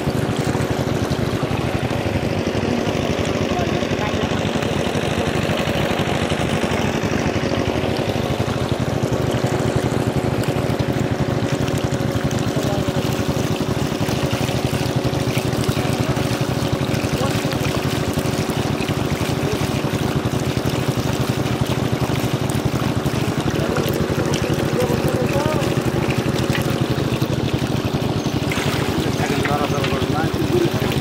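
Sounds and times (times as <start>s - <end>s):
water pouring into basket: 0.0s - 31.0s
water pump engine running: 0.0s - 31.0s.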